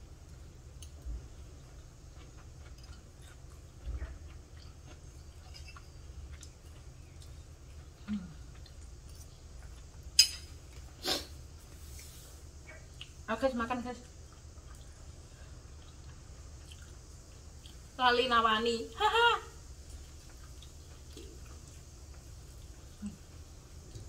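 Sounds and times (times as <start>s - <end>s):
person chewing food: 0.3s - 13.3s, 14.0s - 18.0s, 19.6s - 24.0s.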